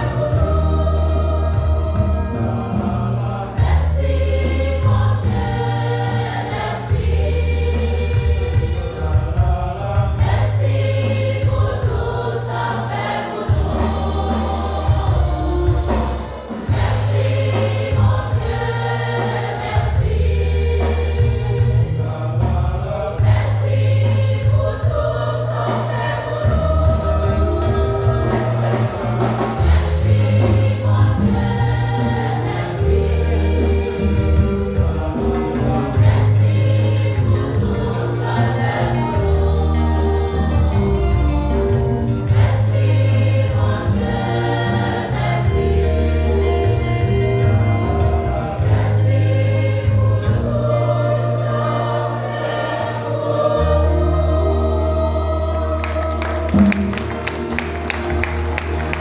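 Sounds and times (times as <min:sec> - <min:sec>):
steady percussion beat: 0:00.0 - 0:53.2, 0:56.2 - 0:59.0
choir singing gospel: 0:00.0 - 0:59.0.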